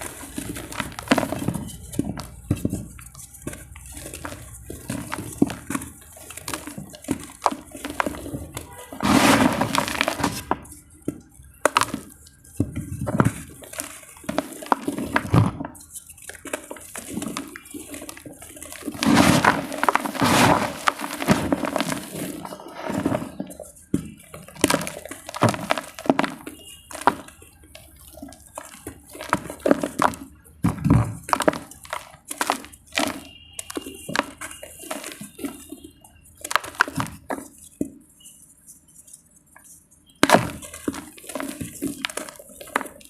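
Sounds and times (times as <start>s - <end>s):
dry clay crumbling and crunching: 0.0s - 43.0s.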